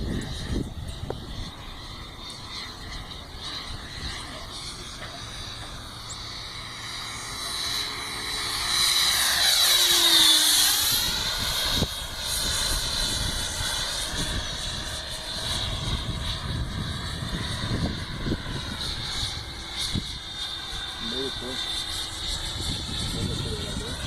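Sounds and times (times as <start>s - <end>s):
electric ducted fan whine: 0.0s - 24.0s.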